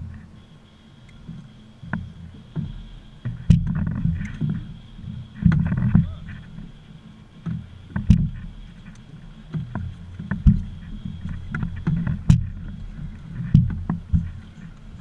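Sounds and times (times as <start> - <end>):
water and wind rumble: 0.0 - 15.0
knocks and clunks on metal boat: 1.0 - 15.0.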